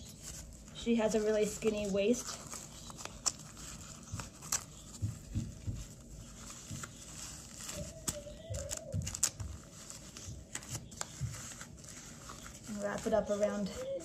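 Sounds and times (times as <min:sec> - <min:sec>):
diaper crinkling: 0:00.0 - 0:14.0.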